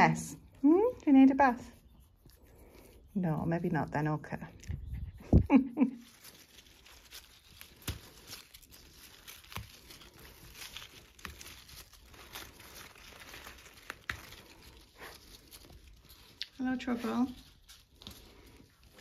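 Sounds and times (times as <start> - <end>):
leaves rustling and tearing: 0.0 - 19.0.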